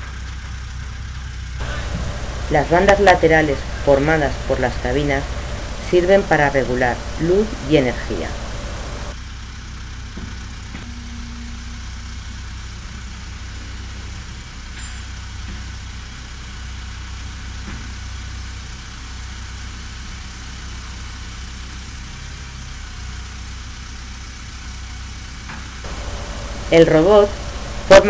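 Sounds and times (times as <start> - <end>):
diesel engine low rumble: 0.0 - 28.0.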